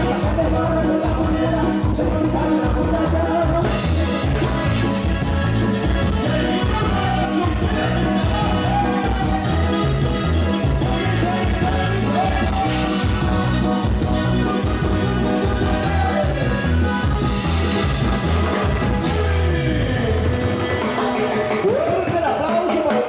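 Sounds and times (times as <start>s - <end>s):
loud dance music: 0.0s - 23.0s.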